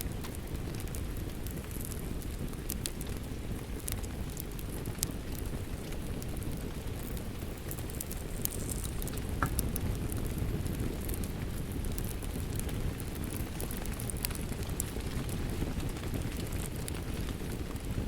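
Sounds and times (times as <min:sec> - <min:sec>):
steady rain: 0:00.0 - 0:18.0
wood fire crackling and popping: 0:00.0 - 0:18.0.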